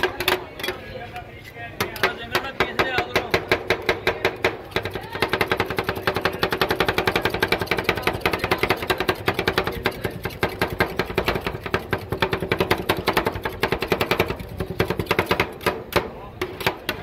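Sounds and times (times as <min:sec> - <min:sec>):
metal spatulas chopping on steel plate: 0:00.0 - 0:00.8, 0:01.8 - 0:17.0.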